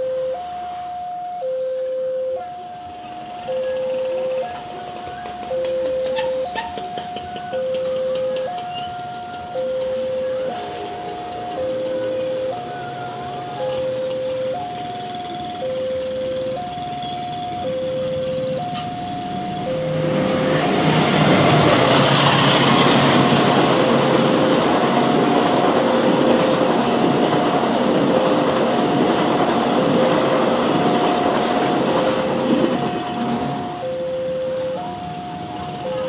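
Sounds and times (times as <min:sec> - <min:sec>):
level-crossing alarm two tones: 0:00.0 - 0:36.0
passenger train passing: 0:00.0 - 0:36.0.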